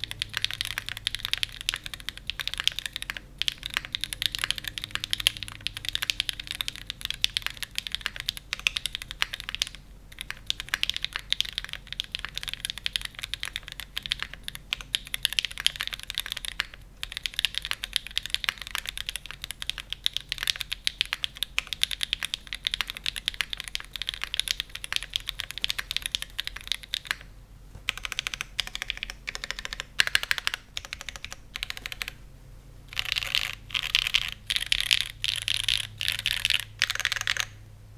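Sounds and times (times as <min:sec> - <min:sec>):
mechanical keyboard typing: 0:00.0 - 0:32.2, 0:32.9 - 0:37.6.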